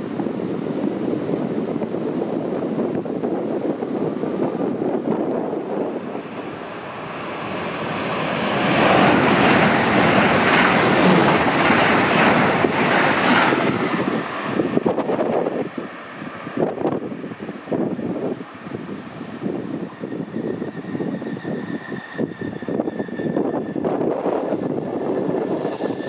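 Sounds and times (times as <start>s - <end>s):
train rushing past: 0.0s - 26.0s
wind buffeting microphone: 0.0s - 26.0s.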